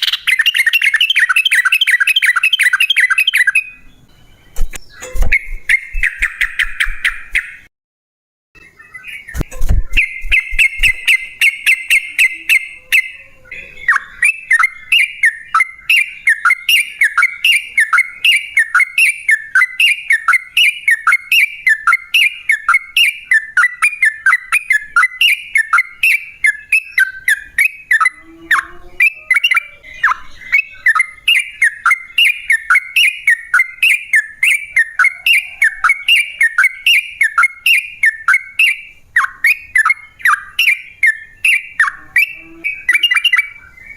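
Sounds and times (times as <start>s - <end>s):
bulbul singing repeated notes: 0.0s - 7.7s, 8.6s - 43.9s.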